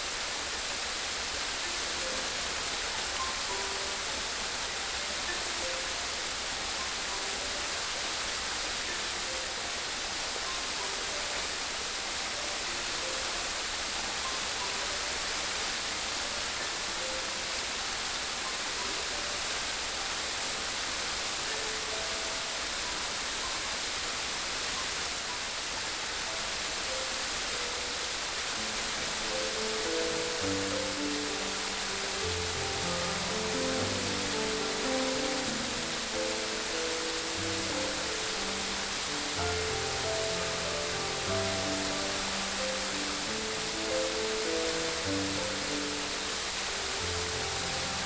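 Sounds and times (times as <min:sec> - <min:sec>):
flowing water rushing: 0:00.0 - 0:48.0
soft music: 0:00.0 - 0:48.0.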